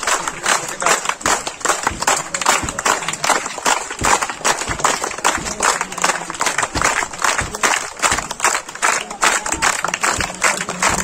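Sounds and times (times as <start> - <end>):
children clapping: 0.0 - 11.0.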